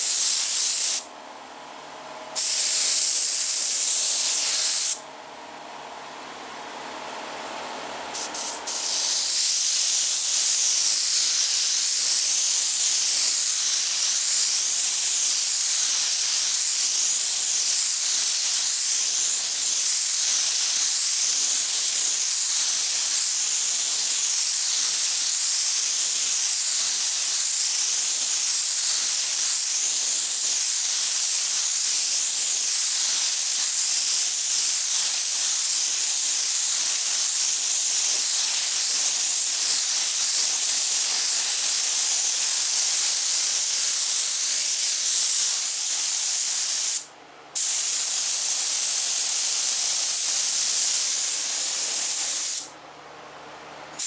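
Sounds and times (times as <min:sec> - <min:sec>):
spray gun hissing: 0:00.0 - 0:01.1, 0:02.4 - 0:05.0, 0:08.2 - 0:52.7.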